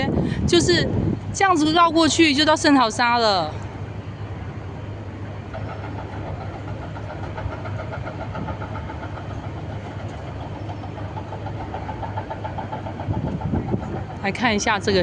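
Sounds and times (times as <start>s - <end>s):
faint pulsing whine: 0.0s - 15.0s
vehicle engine hum: 0.0s - 15.0s.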